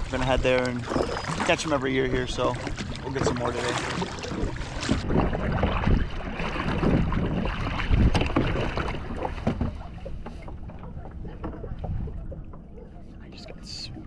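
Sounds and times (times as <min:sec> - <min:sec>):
paddle strokes: 0:00.0 - 0:14.0
water splashing: 0:00.0 - 0:14.0
wind on microphone: 0:00.0 - 0:14.0.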